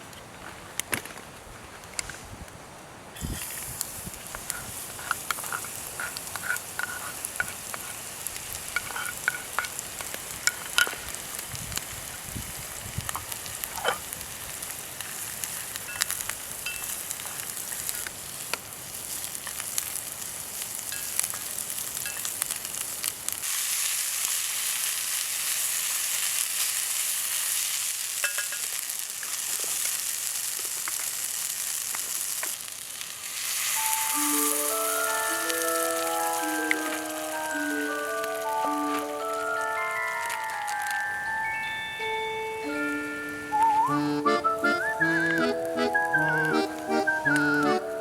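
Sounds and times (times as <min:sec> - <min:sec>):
food sizzling in a skillet: 0:03.2 - 0:48.0.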